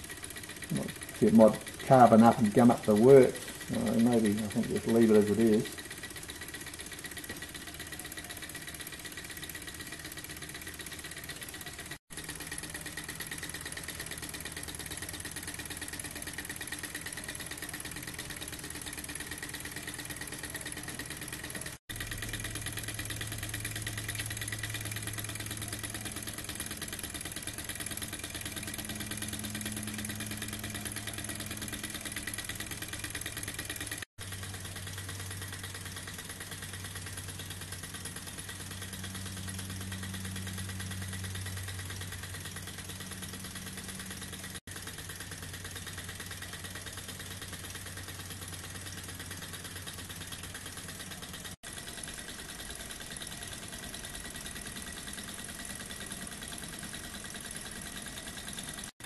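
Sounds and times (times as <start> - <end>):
model engine ticking and clattering: 0.0 - 59.0.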